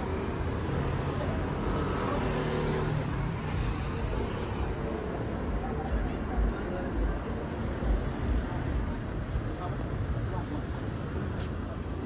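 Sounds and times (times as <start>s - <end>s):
traffic rumble on busy road: 0.0s - 12.0s.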